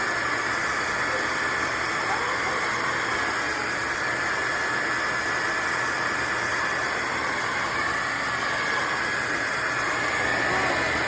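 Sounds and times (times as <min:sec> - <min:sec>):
vacuum mop running: 0:00.0 - 0:11.0.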